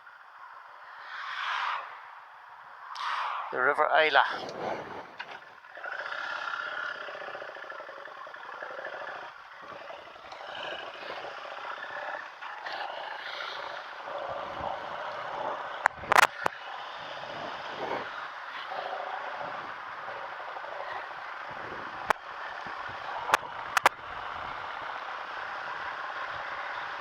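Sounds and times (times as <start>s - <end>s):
wind and road noise: 0.0s - 27.0s
motorcycle engine: 4.3s - 27.0s.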